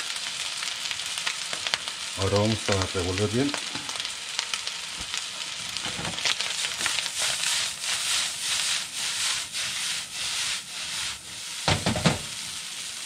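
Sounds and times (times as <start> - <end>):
rice sizzling in a stirred wok: 0.0 - 13.0.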